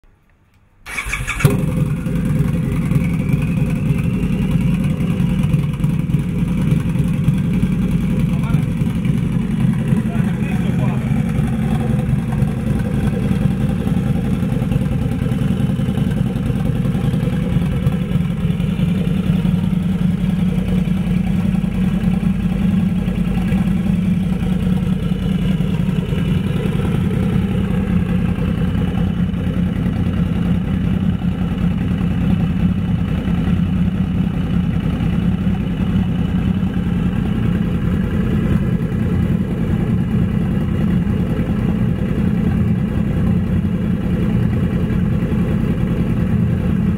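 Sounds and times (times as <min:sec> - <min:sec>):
motorcycle engine idling: 0:00.9 - 0:46.9.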